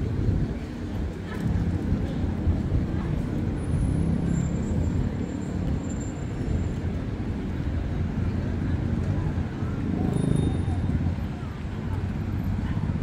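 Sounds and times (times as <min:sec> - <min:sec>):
cars passing: 0:00.0 - 0:13.0
city bus rumbling: 0:00.0 - 0:13.0.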